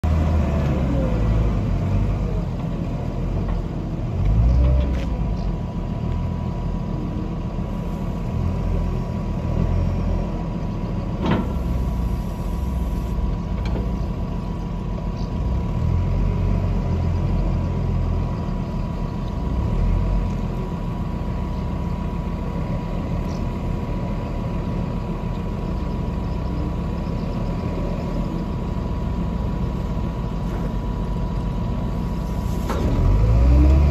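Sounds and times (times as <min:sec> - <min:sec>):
loader diesel engine rumbling: 0:00.0 - 0:33.9.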